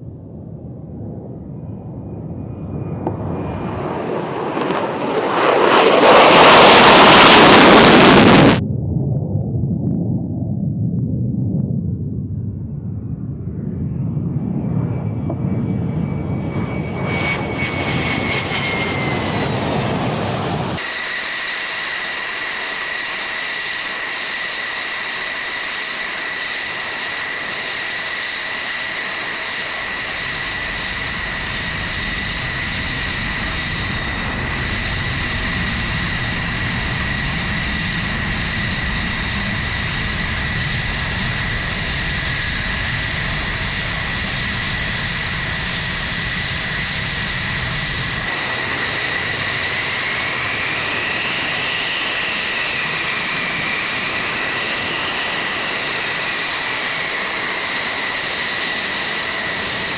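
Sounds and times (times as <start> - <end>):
jet engine rumble and whine: 0.0 - 59.9.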